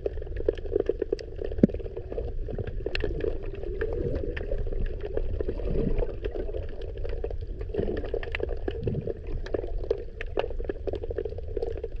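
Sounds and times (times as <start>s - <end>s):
underwater rumble of water: 0.0s - 12.0s.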